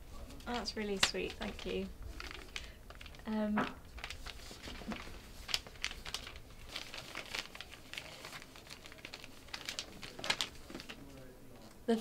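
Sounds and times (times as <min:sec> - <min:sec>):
wrapping paper crinkling: 0:00.1 - 0:11.7.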